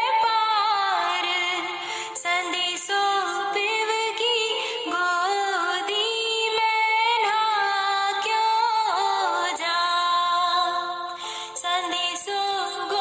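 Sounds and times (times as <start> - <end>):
woman singing folk song: 0.0 - 13.0.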